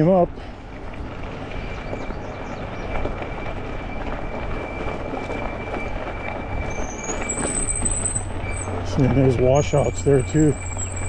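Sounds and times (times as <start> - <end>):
tyres rumbling on gravel: 0.0 - 11.0
faint high-pitched squeal: 1.5 - 11.0.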